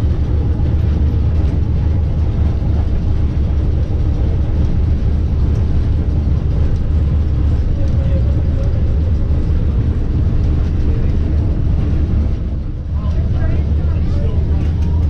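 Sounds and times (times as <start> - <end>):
streetcar running with low rumble: 0.0 - 15.0.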